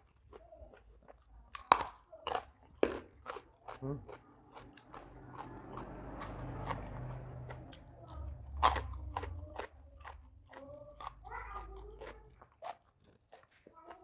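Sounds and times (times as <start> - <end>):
crunching and chewing beans: 0.0 - 14.0.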